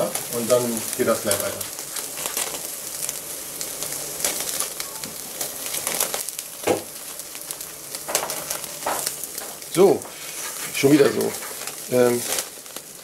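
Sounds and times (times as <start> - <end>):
steak sizzling on a grill: 0.0 - 13.0.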